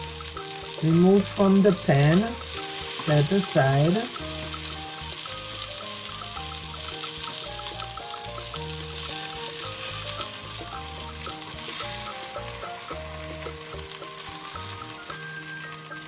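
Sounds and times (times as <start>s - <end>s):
background music: 0.0s - 16.0s
chicken sizzling in hot oil: 0.0s - 16.0s.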